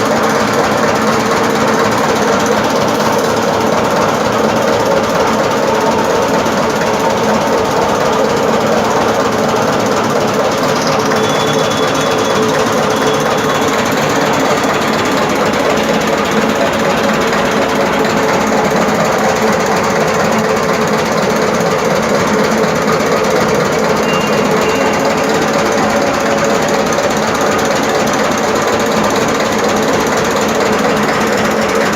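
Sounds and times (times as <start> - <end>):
diesel engine running steadily: 0.0 - 31.9.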